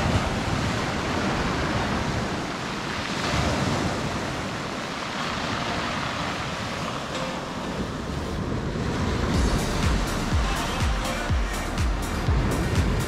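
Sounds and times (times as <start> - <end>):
waves washing onto gravel beach: 0.0 - 11.3.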